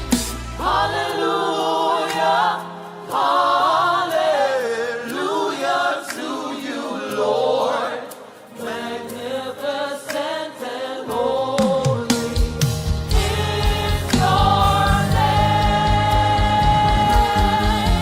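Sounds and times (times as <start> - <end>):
vocal group singing in harmony: 0.0 - 18.0.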